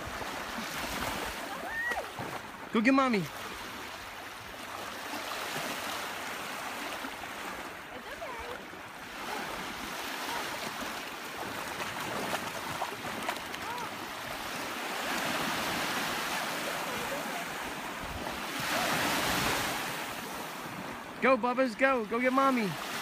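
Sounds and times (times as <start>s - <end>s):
small waves lapping: 0.0s - 23.0s.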